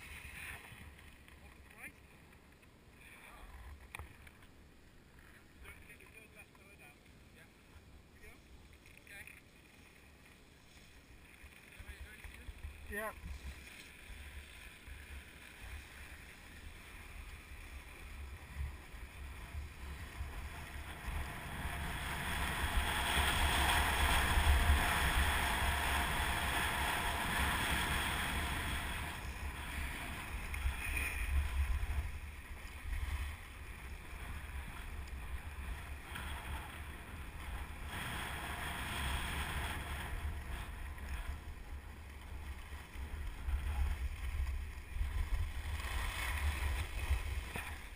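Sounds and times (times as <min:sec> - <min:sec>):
skis scraping over snow: 0:00.0 - 0:02.2, 0:08.2 - 0:47.9.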